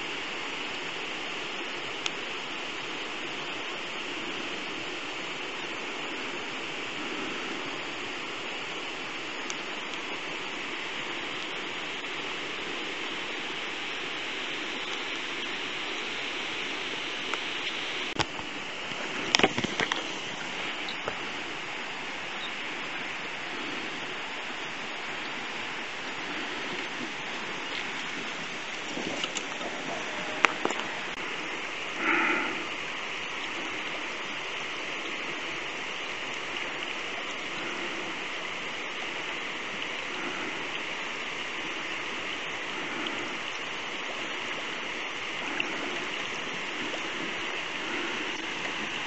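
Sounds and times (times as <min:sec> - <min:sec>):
stream water rushing: 0:00.0 - 0:49.0.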